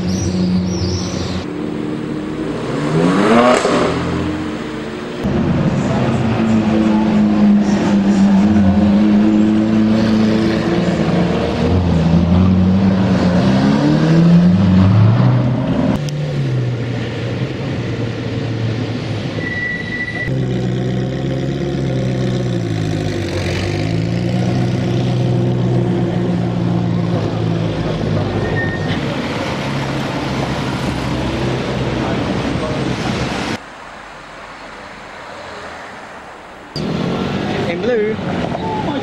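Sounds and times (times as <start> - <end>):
sports car engines accelerating: 0.0 - 19.3, 20.2 - 33.6, 36.2 - 39.0.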